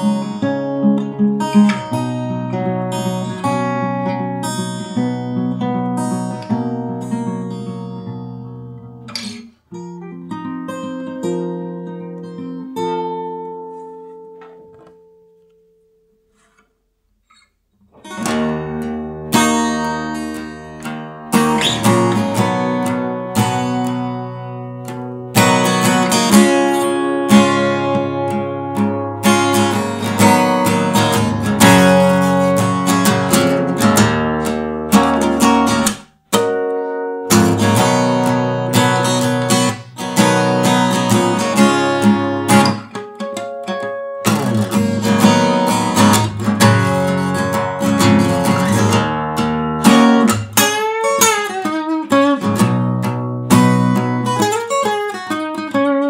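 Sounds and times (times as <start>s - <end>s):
acoustic guitar strummed and picked: 0.0s - 56.0s.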